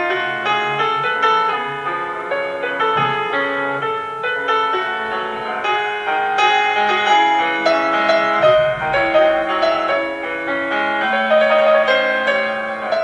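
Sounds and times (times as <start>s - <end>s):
solo piano classical piece: 0.0s - 13.0s.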